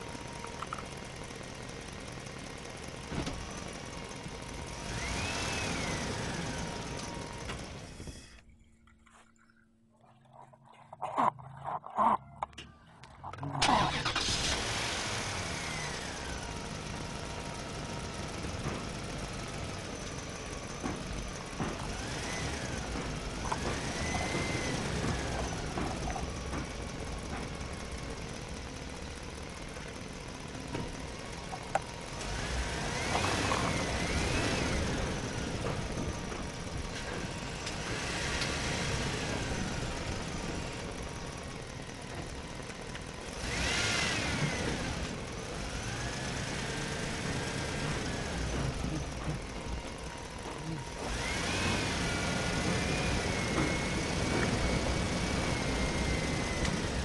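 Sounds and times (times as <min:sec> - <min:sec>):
vehicle engine whine and rumble: 0:00.0 - 0:57.0.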